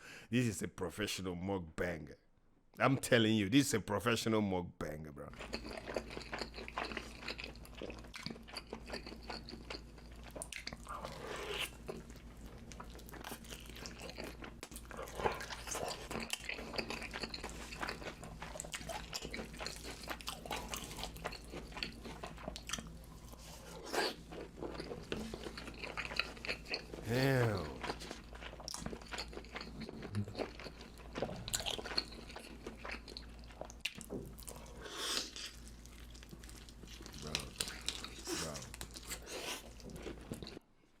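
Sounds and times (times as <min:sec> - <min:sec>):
person chewing crunchy food: 0:05.3 - 0:40.6.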